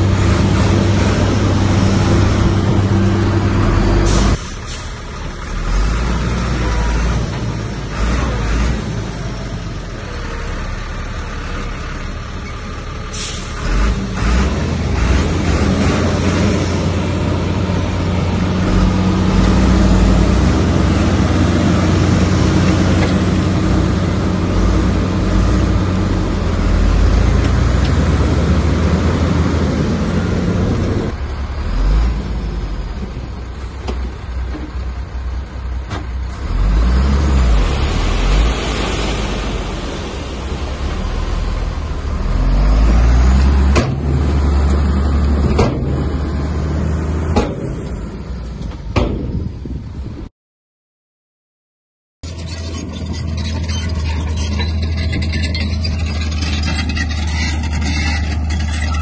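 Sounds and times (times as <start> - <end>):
diesel machinery engine drone: 0.0 - 50.2, 52.3 - 59.0.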